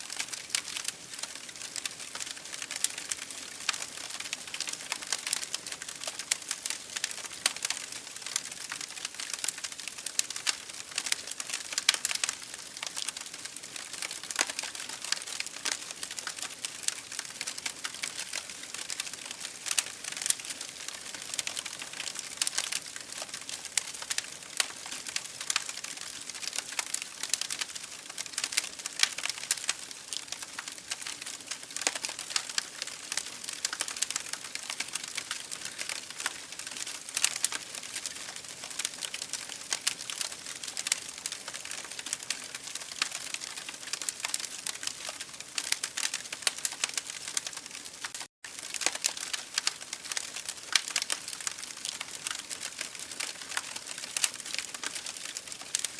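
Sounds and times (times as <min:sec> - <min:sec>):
wood fire crackling: 0:00.0 - 0:55.9
fire popping and snapping: 0:00.1 - 0:55.9.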